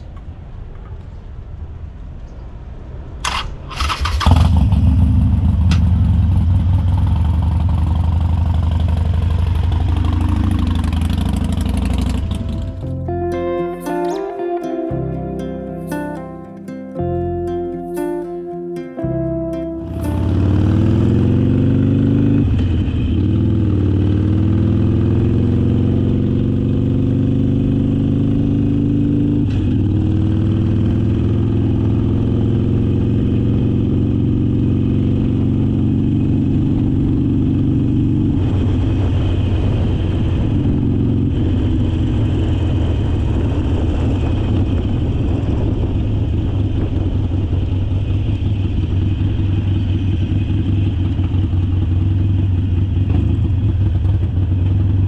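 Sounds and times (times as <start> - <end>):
motorcycle engine revving: 3.2 - 12.9, 19.8 - 55.0.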